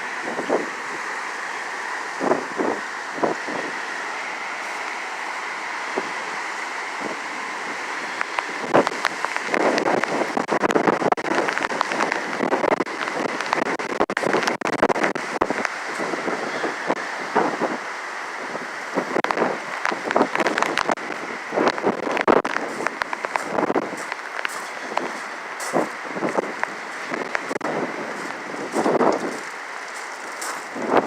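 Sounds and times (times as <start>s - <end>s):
rain: 0.0s - 31.0s
wind: 0.0s - 31.0s
wind buffeting microphone: 0.0s - 31.0s.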